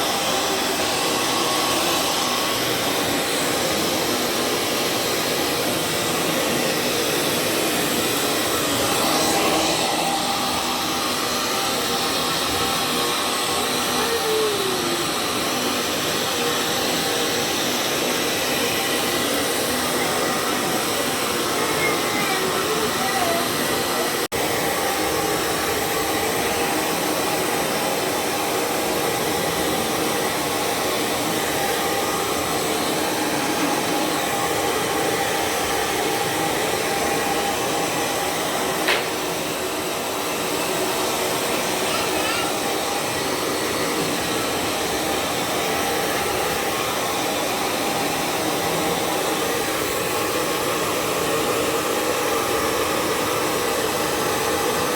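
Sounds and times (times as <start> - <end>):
hair dryer blowing: 0.0 - 54.9.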